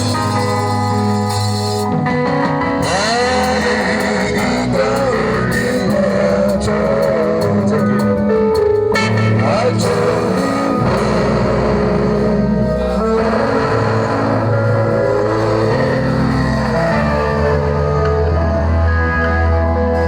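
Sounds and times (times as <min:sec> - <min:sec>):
lead guitar with bending notes: 0:00.0 - 0:20.0
steady bass guitar: 0:00.0 - 0:20.0.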